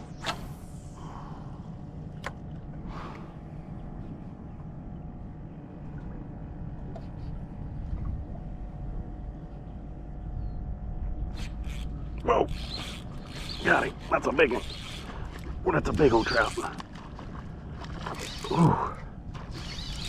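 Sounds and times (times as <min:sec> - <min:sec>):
boat motor rumbling: 0:00.0 - 0:20.0
faint hum: 0:00.0 - 0:20.0.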